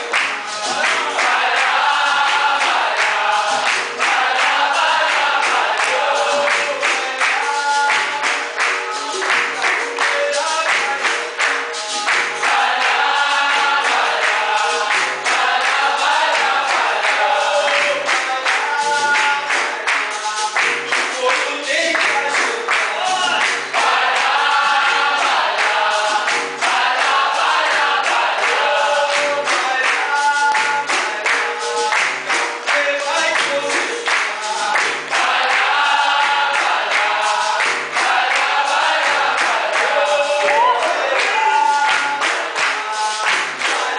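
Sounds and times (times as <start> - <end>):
group singing in chorus: 0.0 - 43.9
rhythmic hand-clapping: 0.0 - 43.9.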